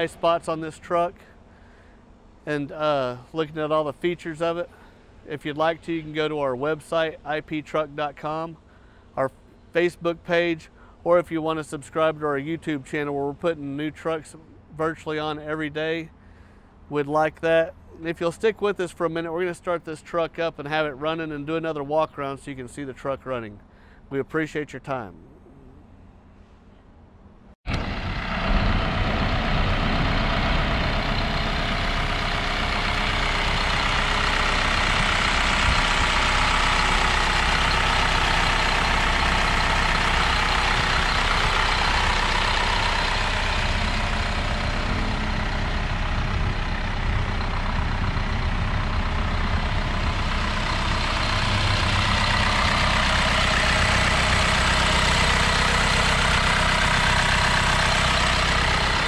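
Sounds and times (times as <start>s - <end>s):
diesel engine idling: 0.0s - 24.0s, 27.7s - 59.0s.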